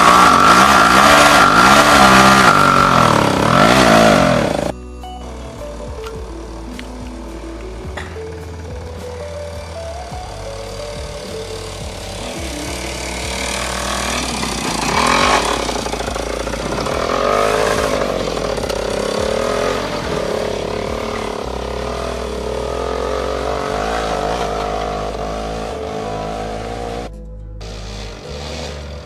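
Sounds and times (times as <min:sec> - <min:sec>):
motorcycle engine revving: 0:00.0 - 0:04.8, 0:05.4 - 0:29.0.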